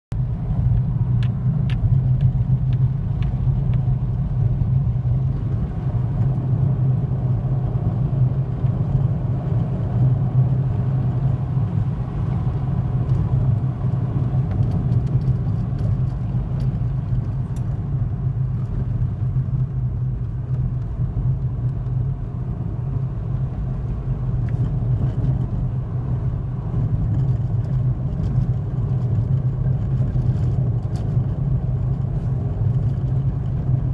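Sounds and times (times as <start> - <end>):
car engine and tyre rumble: 0.1 - 33.9.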